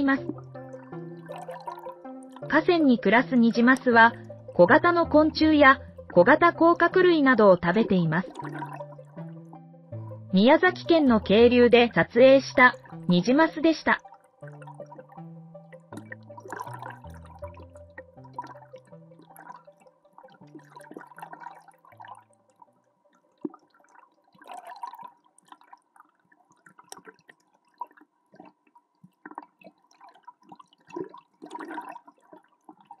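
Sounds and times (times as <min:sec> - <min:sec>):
underwater stream gurgling: 0:00.0 - 0:10.4, 0:11.6 - 0:33.0.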